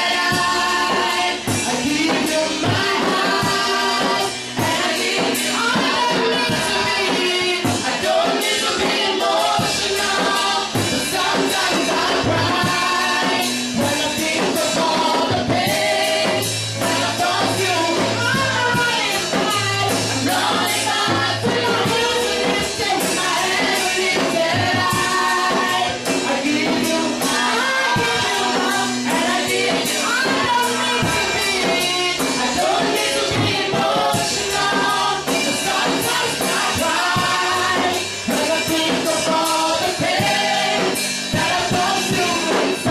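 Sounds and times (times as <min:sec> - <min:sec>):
band with bass and beat: 0:00.0 - 0:42.9
voices singing gospel song: 0:00.0 - 0:42.9.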